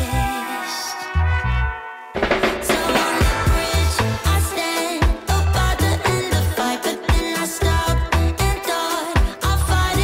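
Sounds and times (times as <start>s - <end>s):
upbeat pop music: 0.0s - 10.0s.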